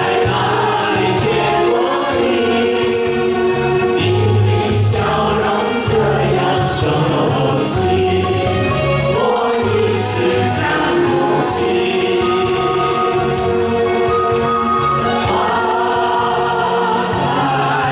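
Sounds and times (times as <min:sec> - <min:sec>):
group singing in unison: 0:00.0 - 0:17.9
pop backing track: 0:00.0 - 0:17.9
pulsing bass: 0:00.0 - 0:17.9.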